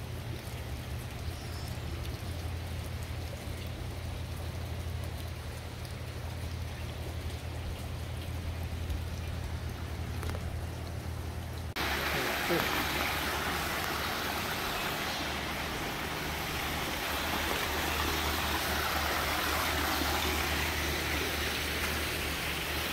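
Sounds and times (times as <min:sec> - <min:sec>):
water trickling and splashing: 0:00.0 - 0:22.9.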